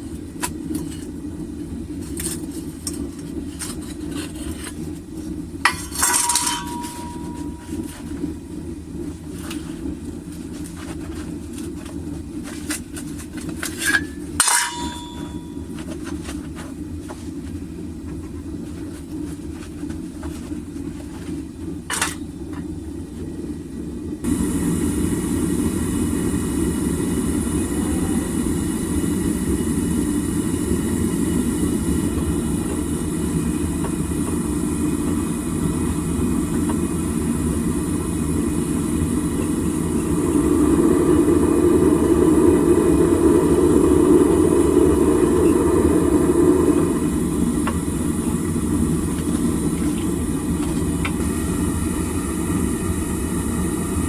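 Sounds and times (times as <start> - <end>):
propane furnace burner roaring: 0.0 - 54.0.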